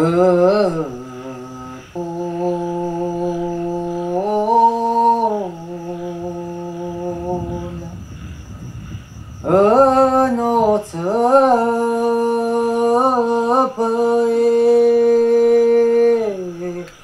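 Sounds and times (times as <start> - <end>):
person singing long notes: 0.0 - 8.1, 9.4 - 17.0.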